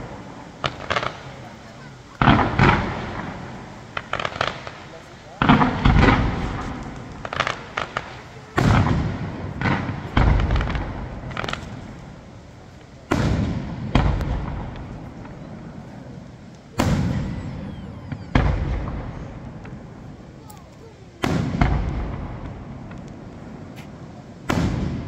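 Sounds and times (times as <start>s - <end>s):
crackling pops: 0.0s - 25.0s
firework booms: 0.0s - 25.0s.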